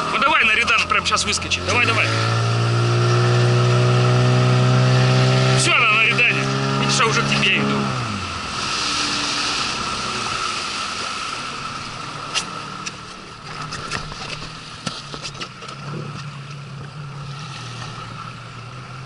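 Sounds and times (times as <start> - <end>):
outboard motor idling: 0.0 - 19.0
water rushing along boat hull: 0.0 - 19.0.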